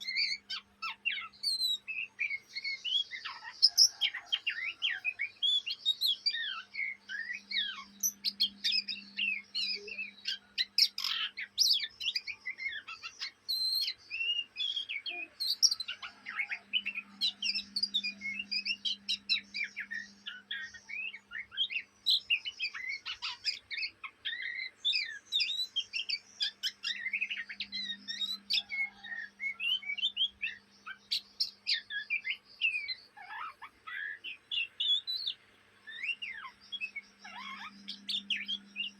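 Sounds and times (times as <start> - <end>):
young bird twittering: 0.0 - 38.9.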